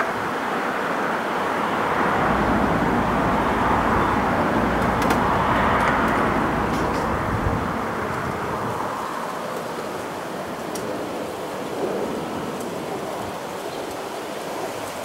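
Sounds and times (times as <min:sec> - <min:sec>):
road traffic rushing: 0:00.0 - 0:13.6.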